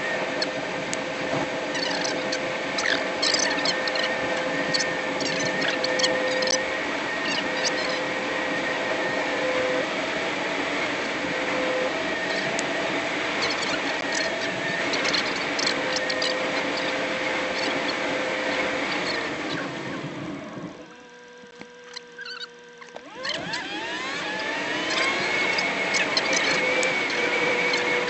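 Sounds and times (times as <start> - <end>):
thin whine: 0.0 - 28.0.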